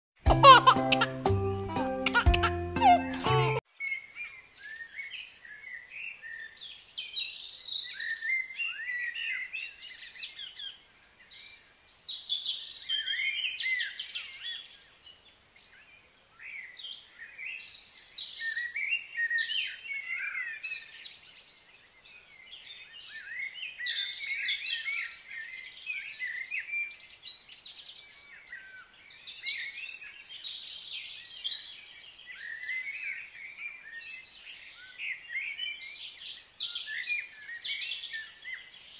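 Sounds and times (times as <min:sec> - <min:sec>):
small birds chirping: 0:00.4 - 0:38.9.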